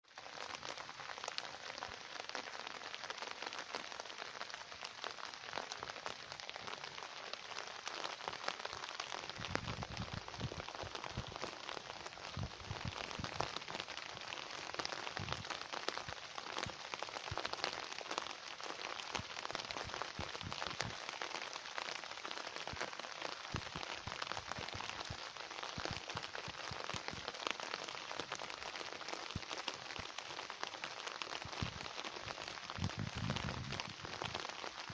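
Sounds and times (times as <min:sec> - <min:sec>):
rain falling: 0:00.0 - 0:34.9
heavy raindrops thudding: 0:00.1 - 0:34.9.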